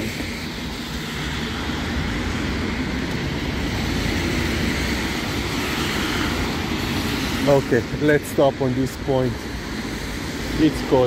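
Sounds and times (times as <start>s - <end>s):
low traffic rumble: 0.0s - 11.0s
tyres hissing on wet road: 0.0s - 11.0s.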